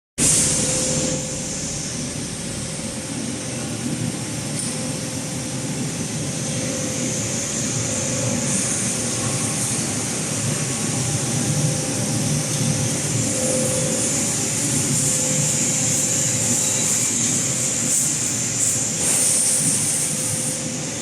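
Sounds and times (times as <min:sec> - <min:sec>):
welding mill mechanical rumble: 0:00.2 - 0:21.0.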